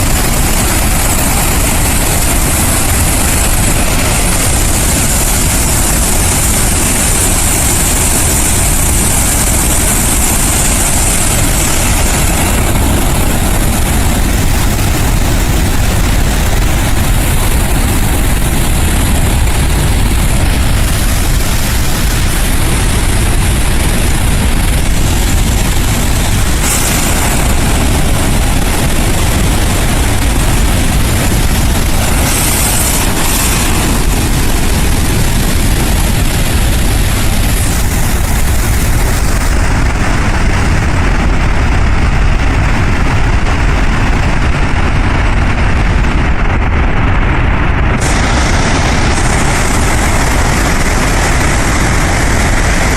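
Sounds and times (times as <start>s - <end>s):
water rushing from dam outlets: 0.0s - 52.9s.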